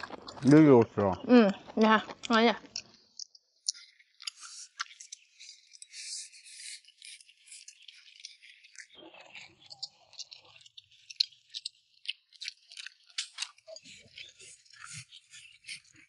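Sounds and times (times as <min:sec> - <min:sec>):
chewing: 0:00.0 - 0:16.0
quick clicks and crackles: 0:00.0 - 0:16.0.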